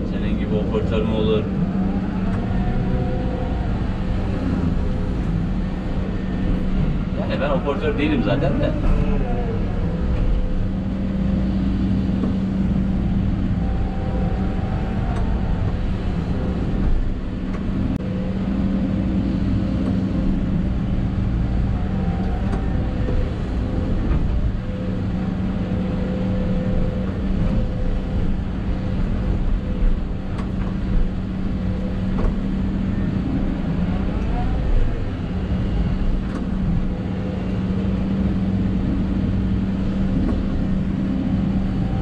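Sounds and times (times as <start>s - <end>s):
excavator engine drone: 0.0s - 42.0s
hydraulic whine: 0.0s - 42.0s.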